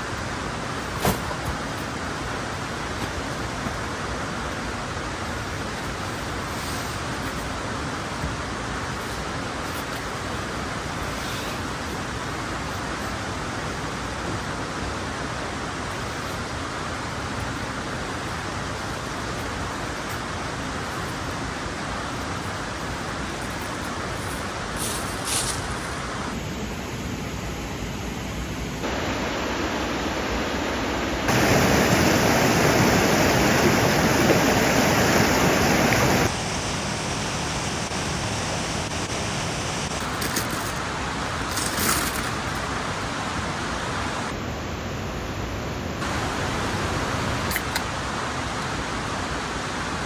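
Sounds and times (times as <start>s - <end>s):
mountain stream rushing: 0.0s - 26.4s, 28.8s - 50.0s.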